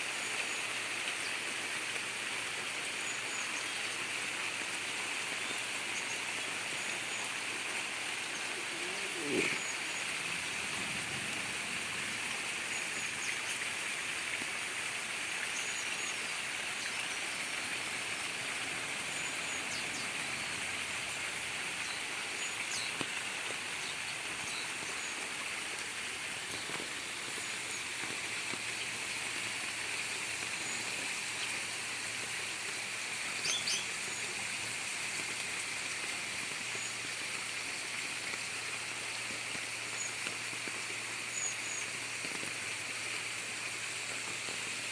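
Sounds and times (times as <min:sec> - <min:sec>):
rainwater gurgling: 0:00.0 - 0:44.9
steady rain: 0:00.0 - 0:44.9.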